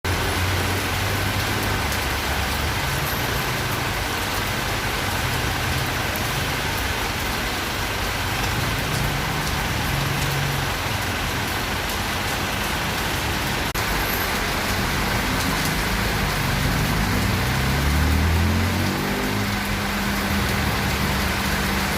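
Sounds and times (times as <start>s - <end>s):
heavy rain falling: 0.0s - 21.9s
road traffic hum: 0.0s - 21.9s.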